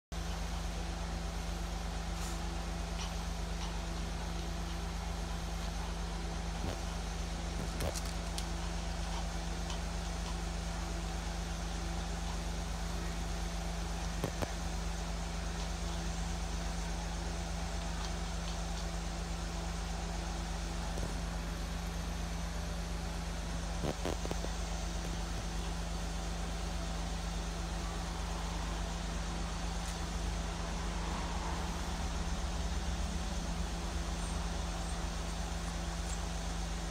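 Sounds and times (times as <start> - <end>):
low mechanical hum: 0.1 - 36.9.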